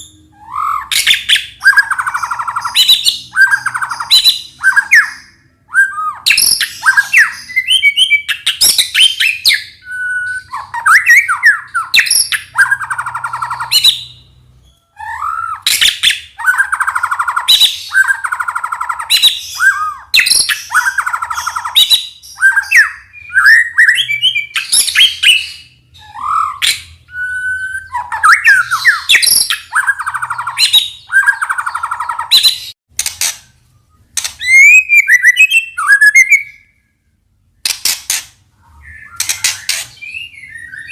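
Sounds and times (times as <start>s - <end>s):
songbird singing varied song: 0.0s - 32.8s, 33.8s - 36.8s.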